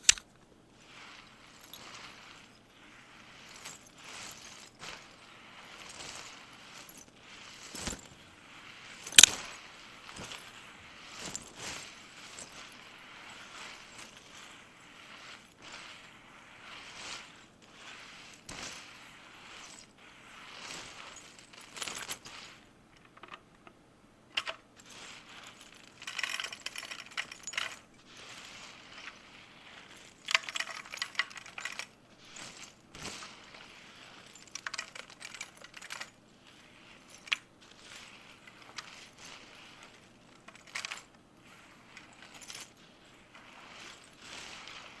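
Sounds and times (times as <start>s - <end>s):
small hard objects clicking and rattling: 0.0s - 23.7s, 24.3s - 45.0s.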